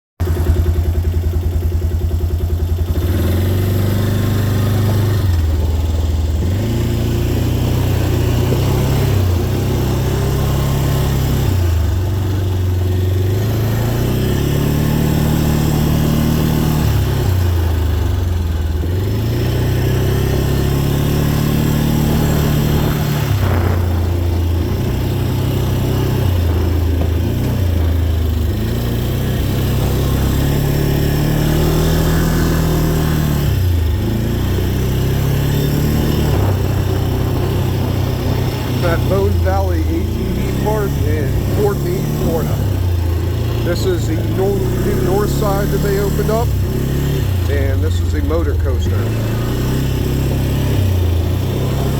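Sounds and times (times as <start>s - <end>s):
dirt bike engine revving: 0.2s - 51.9s.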